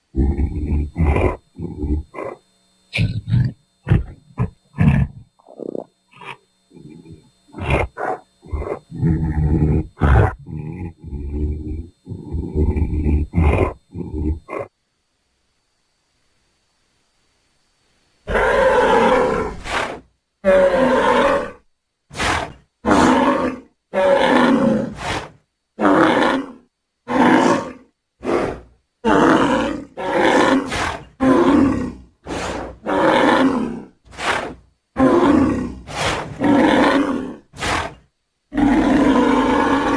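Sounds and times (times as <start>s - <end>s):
growling bull-like roars: 0.1s - 2.4s, 3.0s - 14.7s, 18.3s - 21.6s, 22.2s - 25.1s, 25.8s - 39.9s.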